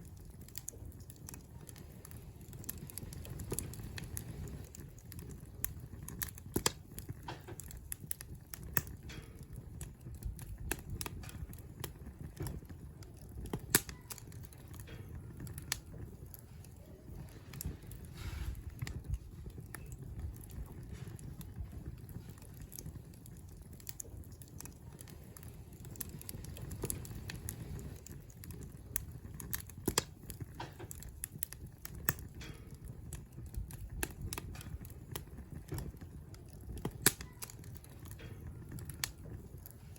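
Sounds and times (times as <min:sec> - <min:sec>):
campfire crackling and popping: 0:00.0 - 0:39.9
low rumble of burning: 0:00.0 - 0:39.9.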